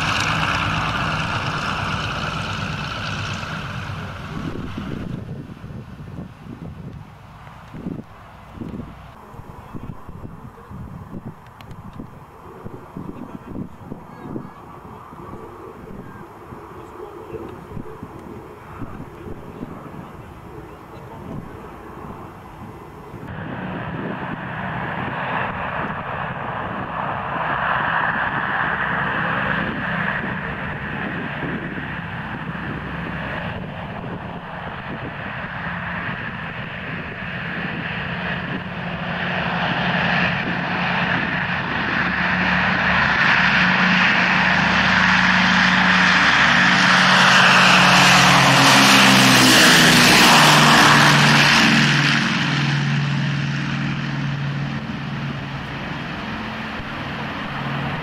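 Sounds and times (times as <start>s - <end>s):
propeller airliner taking off: 0.0s - 58.0s.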